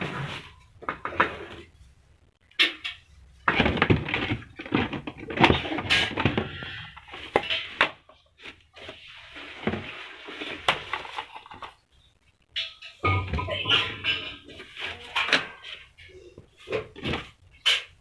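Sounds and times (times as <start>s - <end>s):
rustling and scraping: 0.0s - 11.8s, 12.6s - 18.0s.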